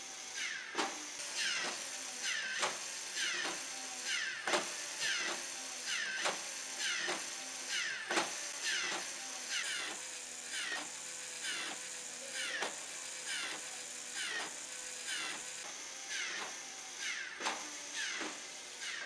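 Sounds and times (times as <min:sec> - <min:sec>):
steady motor tone: 0:00.0 - 0:19.0.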